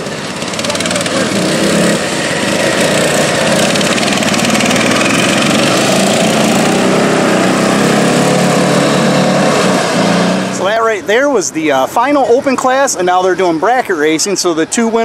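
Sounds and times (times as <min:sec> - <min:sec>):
lawn mower engine running hard: 0:00.0 - 0:14.2.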